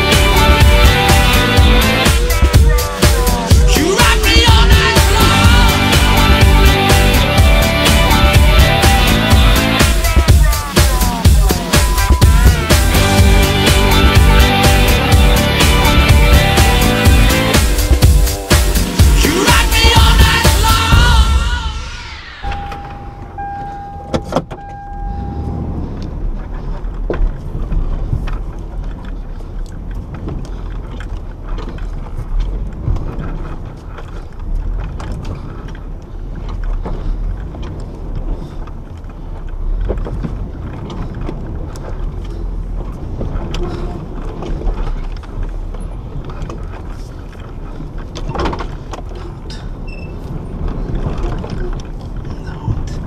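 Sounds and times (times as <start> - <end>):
truck engine rumbling: 0.0 - 53.0.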